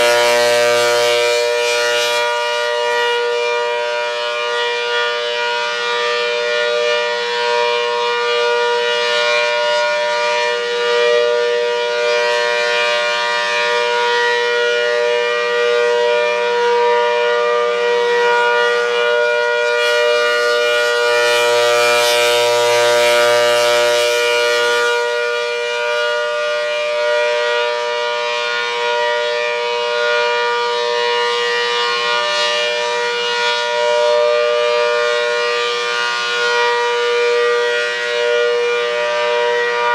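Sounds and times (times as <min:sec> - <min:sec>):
tornado siren steady chord: 0:00.0 - 0:39.9.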